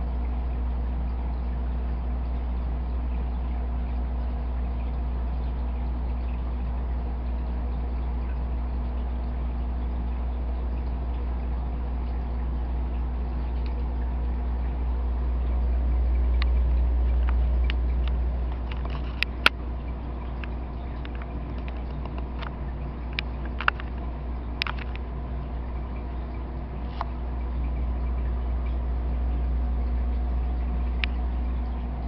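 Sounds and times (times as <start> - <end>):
aquarium equipment humming: 0.0 - 32.0.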